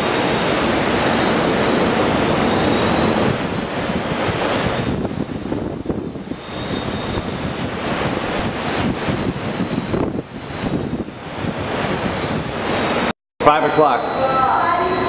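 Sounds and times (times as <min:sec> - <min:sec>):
strong wind buffeting microphone: 0:00.0 - 0:13.1.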